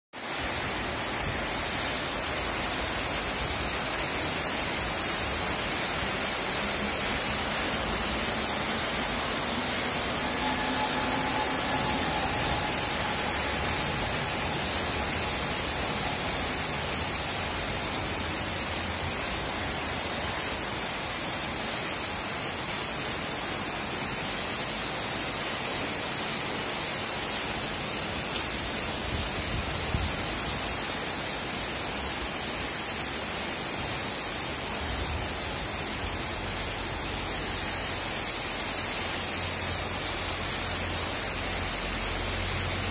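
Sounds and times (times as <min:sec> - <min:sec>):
heavy rain on leaves and street: 0:00.1 - 0:42.9.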